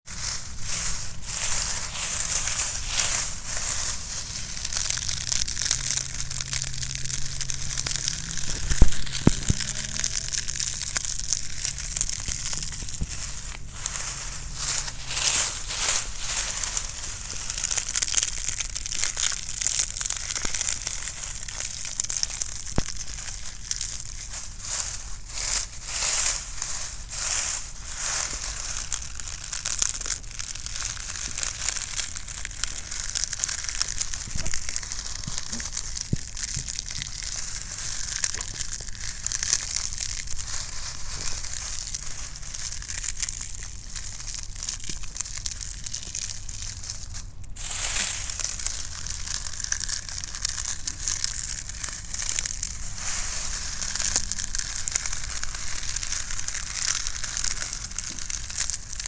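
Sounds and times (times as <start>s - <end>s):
dry leaves crunching: 0.0s - 59.0s.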